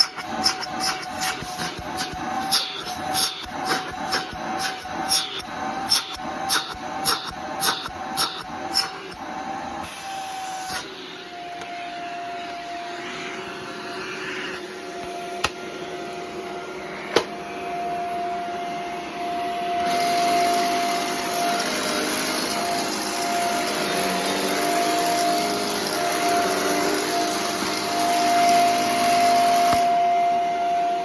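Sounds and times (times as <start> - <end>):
upright vacuum running: 0.0 - 31.0.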